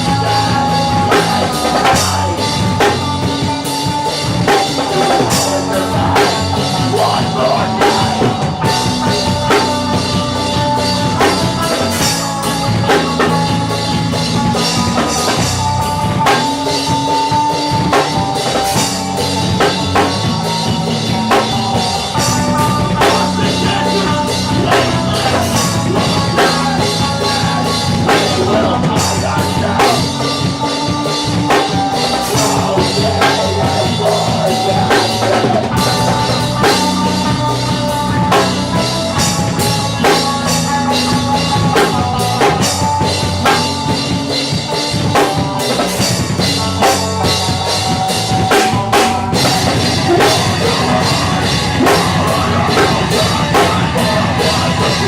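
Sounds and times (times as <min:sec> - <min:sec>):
drum kit beat: 0:00.0 - 0:55.0
rock music: 0:00.0 - 0:55.0.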